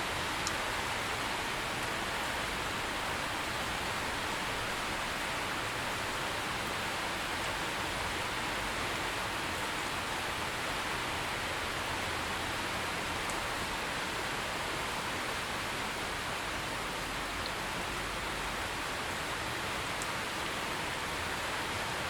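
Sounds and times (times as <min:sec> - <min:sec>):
heavy rain hiss: 0:00.0 - 0:22.0.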